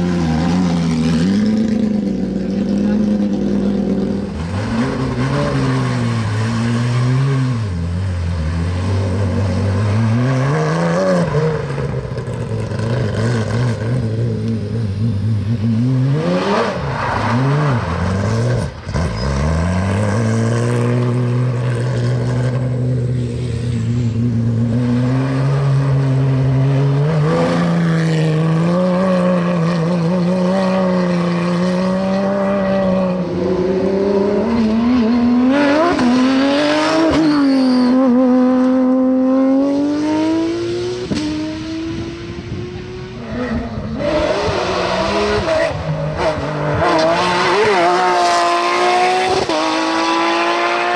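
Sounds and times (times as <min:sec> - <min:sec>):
race car engine revving: 0:00.0 - 0:50.9.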